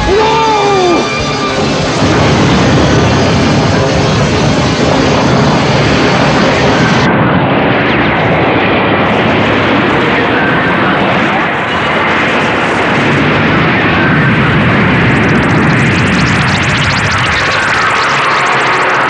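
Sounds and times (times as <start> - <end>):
loud steady roaring noise: 0.0 - 19.0.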